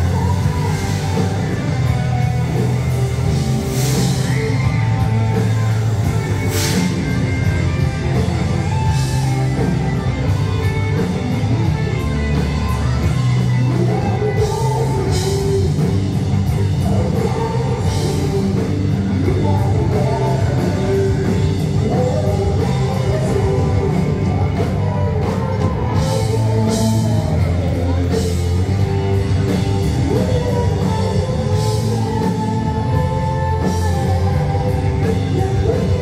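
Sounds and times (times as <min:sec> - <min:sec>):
rock music with singing: 0:00.0 - 0:36.0.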